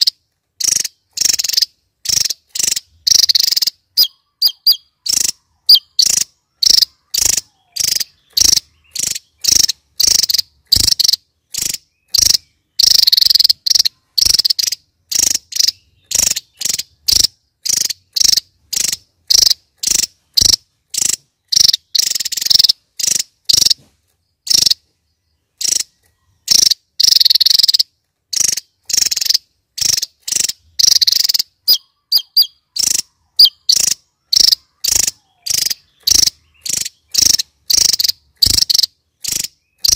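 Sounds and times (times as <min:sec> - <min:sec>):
bird singing in rapid bursts: 0:00.0 - 0:39.9.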